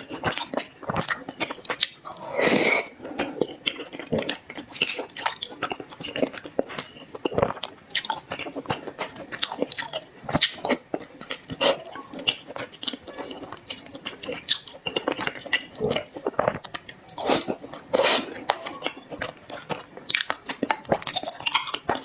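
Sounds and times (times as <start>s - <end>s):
person chewing: 0.0s - 22.0s.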